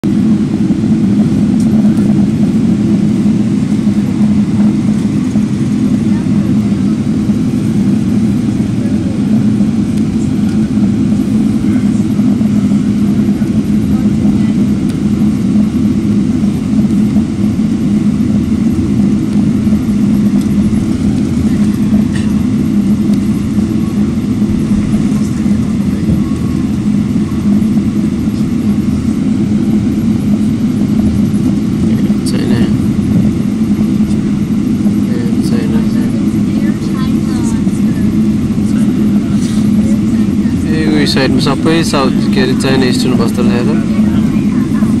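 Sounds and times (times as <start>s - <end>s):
jet engines droning: 0.0s - 45.0s.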